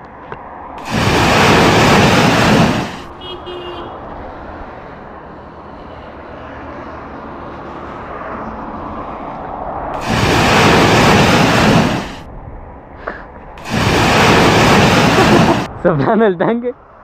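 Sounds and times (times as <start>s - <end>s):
road traffic passing: 0.0s - 17.0s
loud rushing noise: 0.7s - 12.8s, 13.5s - 16.0s.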